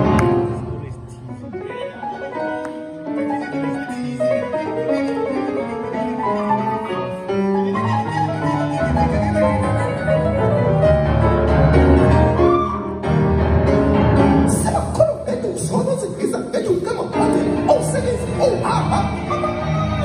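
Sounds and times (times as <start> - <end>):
jazz grand piano: 0.0 - 16.1.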